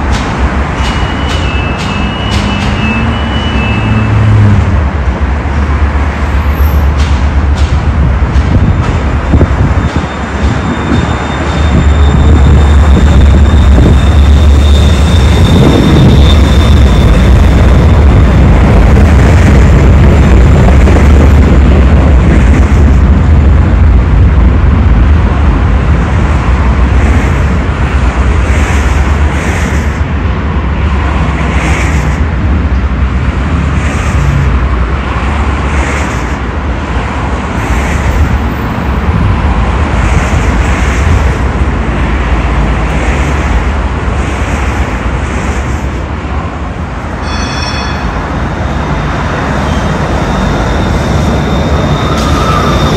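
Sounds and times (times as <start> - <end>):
tram rumbling along track: 0.0 - 52.9.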